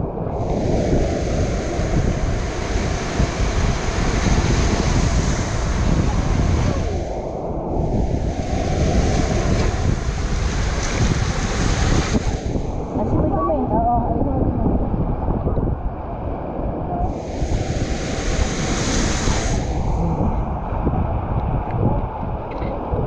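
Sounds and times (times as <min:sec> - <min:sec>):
sea waves washing onto beach: 0:00.0 - 0:23.0
wind buffeting microphone: 0:00.0 - 0:23.0.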